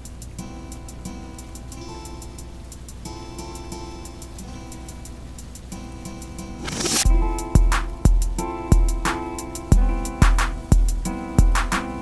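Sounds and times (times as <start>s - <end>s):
held chords: 0.0s - 12.0s
light ticking beat: 0.0s - 12.0s.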